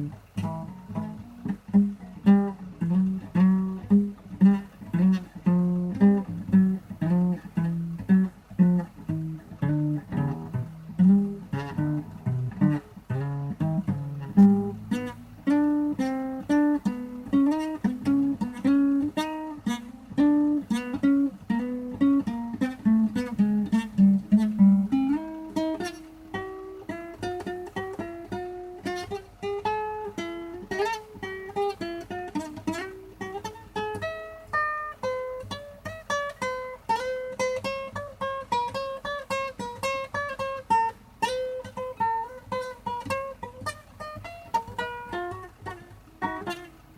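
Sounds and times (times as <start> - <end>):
plucked string blues notes: 0.0 - 46.9.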